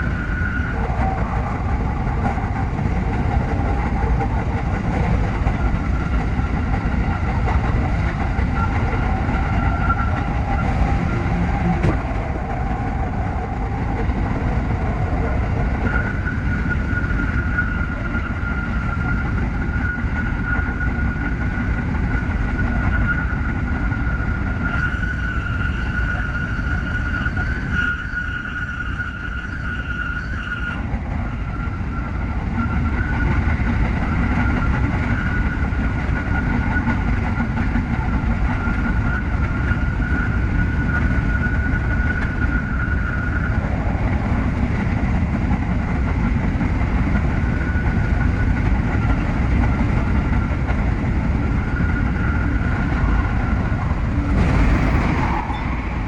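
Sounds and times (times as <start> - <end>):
electric train rumble and whine: 0.0 - 56.0.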